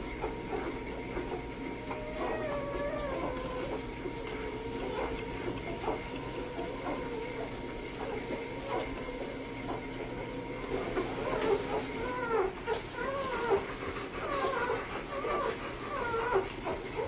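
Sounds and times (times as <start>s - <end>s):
puppies whining and squeaking: 0.0s - 17.0s.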